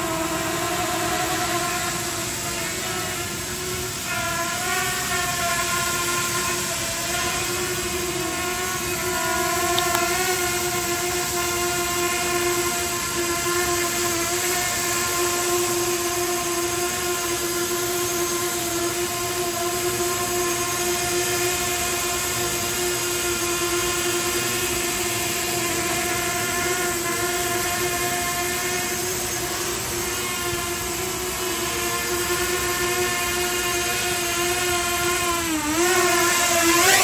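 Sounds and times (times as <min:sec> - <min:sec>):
quadcopter hovering with whine: 0:00.0 - 0:37.0.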